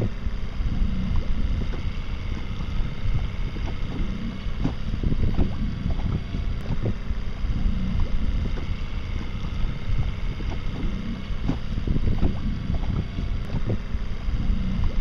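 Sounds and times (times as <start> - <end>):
water splashing around boat: 1.0 - 14.1.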